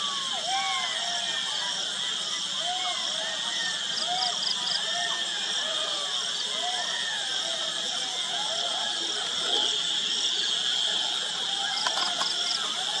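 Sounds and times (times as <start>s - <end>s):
shrill insect chorus: 0.0s - 13.0s.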